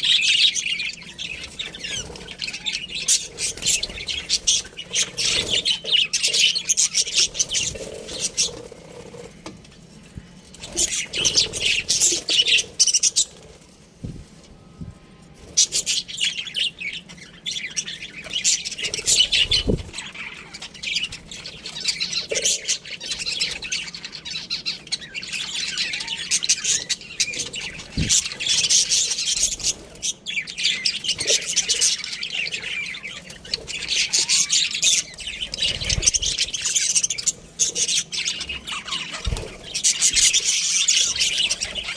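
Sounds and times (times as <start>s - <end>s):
budgies chattering and chirping: 0.0s - 41.9s.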